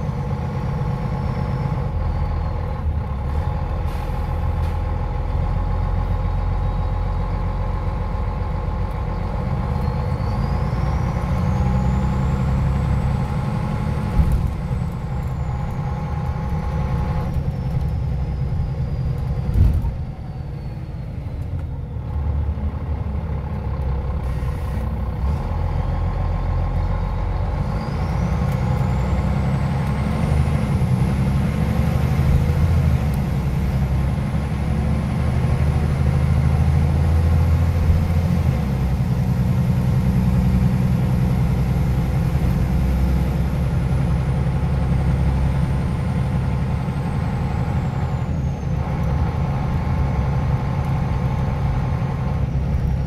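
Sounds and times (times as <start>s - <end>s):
bus engine drone: 0.0s - 53.0s.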